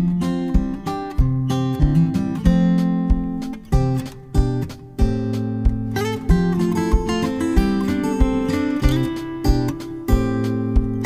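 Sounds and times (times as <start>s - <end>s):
acoustic guitar over a beat: 0.0s - 11.0s.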